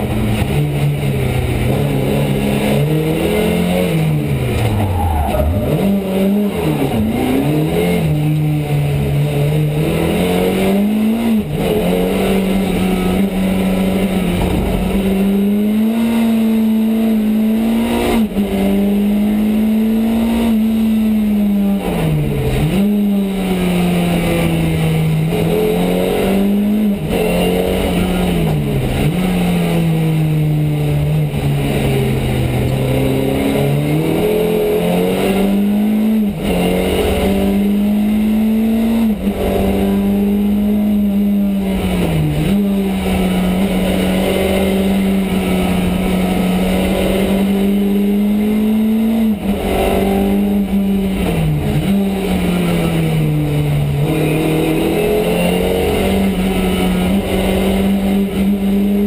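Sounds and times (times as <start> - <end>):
rally car engine revving hard: 0.0 - 59.0.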